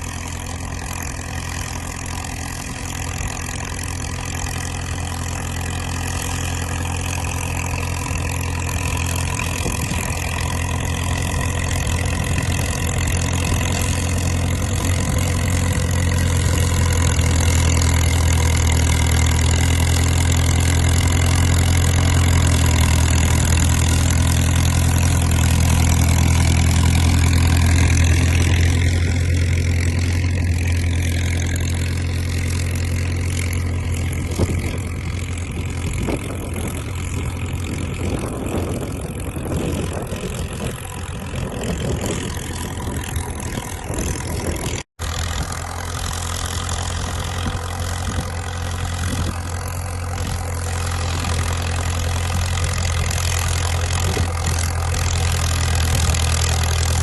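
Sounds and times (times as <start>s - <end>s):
crawler dozer engine running: 0.0s - 57.0s.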